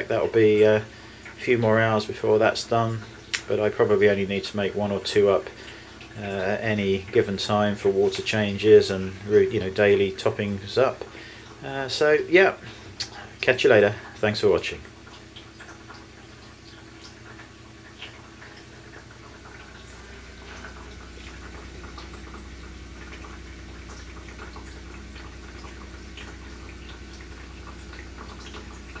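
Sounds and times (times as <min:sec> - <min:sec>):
electric pump humming: 0:00.0 - 0:29.0
water trickling: 0:00.0 - 0:29.0.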